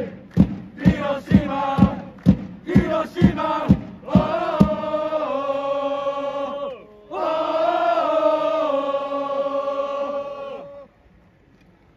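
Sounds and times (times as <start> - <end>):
crowd chanting: 0.0 - 10.9.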